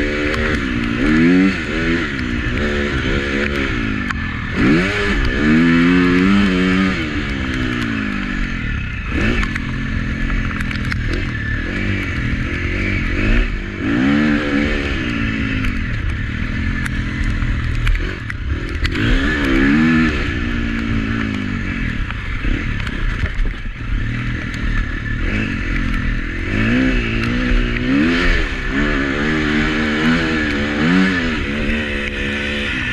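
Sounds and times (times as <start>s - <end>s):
motocross engine revving: 0.0s - 32.9s.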